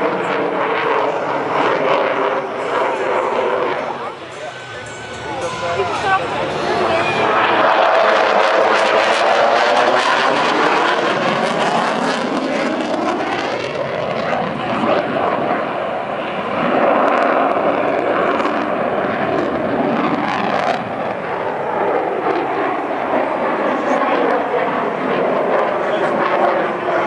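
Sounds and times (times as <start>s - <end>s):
fighter jet engine roar: 0.0s - 27.0s.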